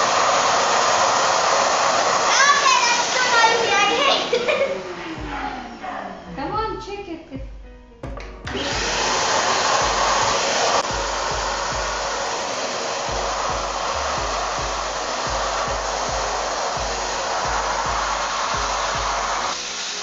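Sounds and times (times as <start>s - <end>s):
vacuum cleaner running: 0.0s - 6.7s, 8.5s - 20.0s.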